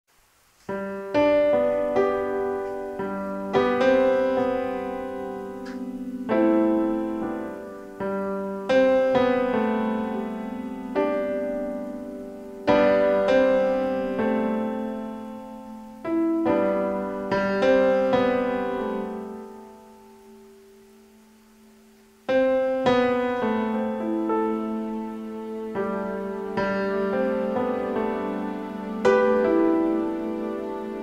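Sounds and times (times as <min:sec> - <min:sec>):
slow piano chords: 0:00.3 - 0:31.0.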